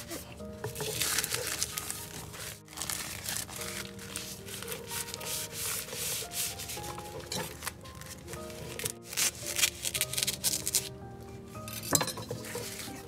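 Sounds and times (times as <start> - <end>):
seaweed sheet crinkling: 0.0 - 11.0
soft background music: 0.0 - 13.0.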